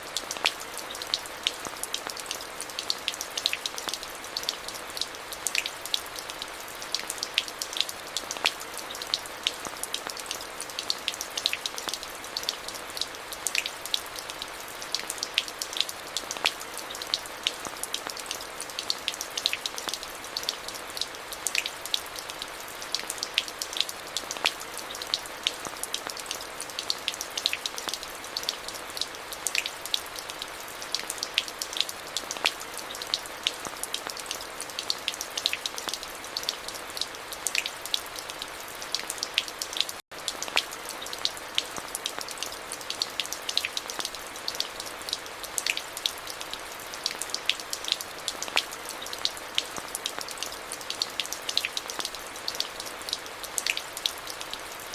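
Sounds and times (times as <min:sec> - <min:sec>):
rain drops ticking: 0:00.0 - 0:54.9
steady rainfall: 0:00.0 - 0:54.9.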